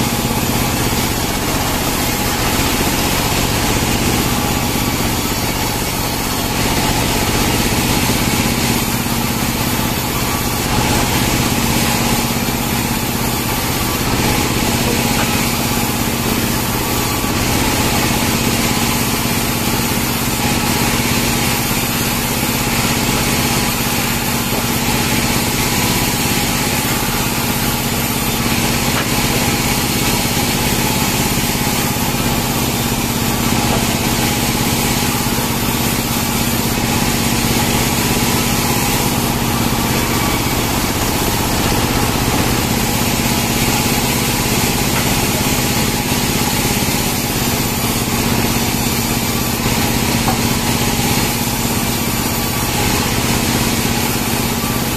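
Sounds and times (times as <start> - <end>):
engine-driven saw cutting logs: 0.0 - 54.9.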